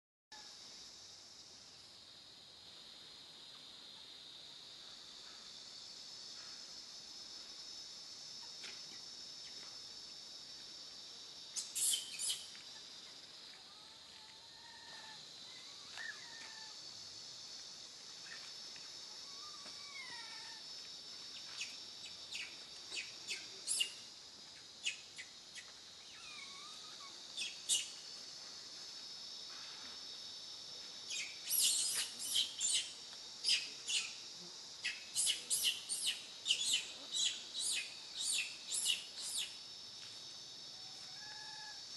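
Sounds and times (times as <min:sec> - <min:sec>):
shrill insect chirps: 0:00.3 - 0:41.9
high-pitched insect drone: 0:04.1 - 0:41.9.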